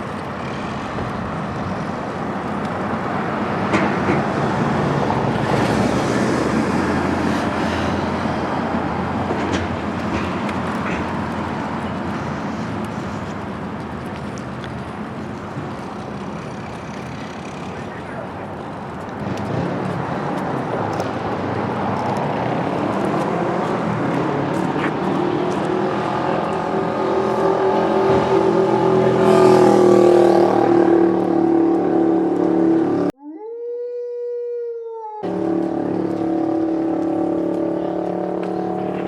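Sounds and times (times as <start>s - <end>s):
engine pulling away: 0.0s - 33.1s, 35.2s - 39.0s
traffic passing: 0.0s - 33.2s, 35.2s - 39.0s.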